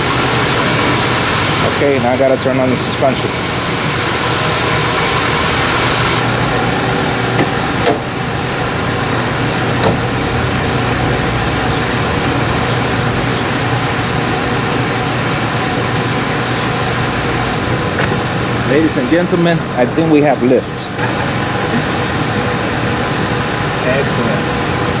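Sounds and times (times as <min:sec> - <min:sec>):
air compressor running: 0:00.0 - 0:25.0
engine idling: 0:00.0 - 0:25.0.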